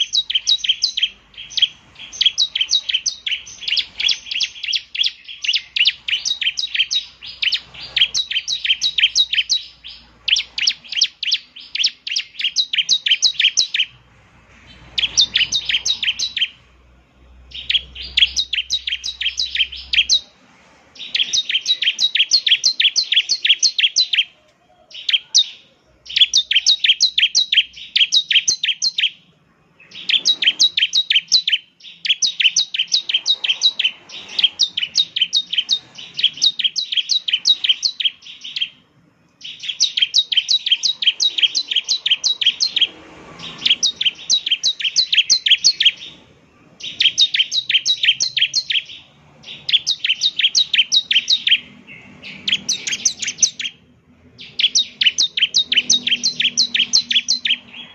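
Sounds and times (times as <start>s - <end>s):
bird chirping rapidly: 0.0s - 57.9s.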